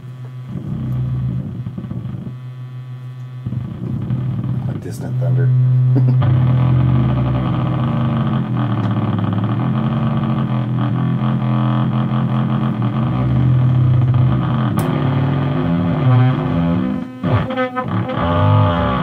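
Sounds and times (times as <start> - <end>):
synthesizer low drone: 0.0 - 19.0.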